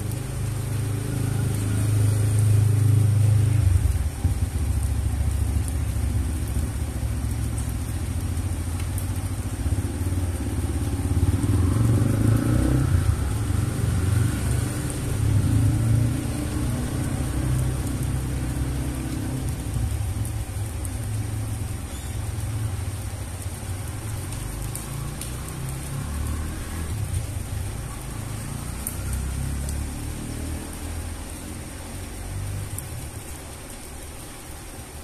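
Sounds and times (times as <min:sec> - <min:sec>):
vehicle engine rumbling: 0:00.0 - 0:28.6
rain hiss: 0:00.0 - 0:35.0.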